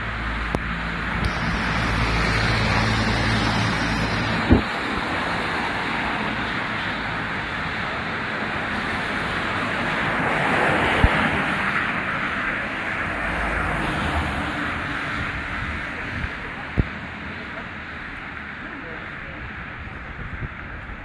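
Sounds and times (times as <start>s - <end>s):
car tyres hissing on wet road: 0.1s - 21.0s.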